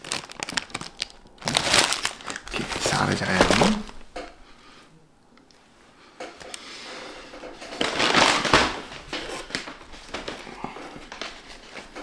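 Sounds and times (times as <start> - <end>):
rustling handling noise: 0.0 - 4.4, 5.6 - 12.0.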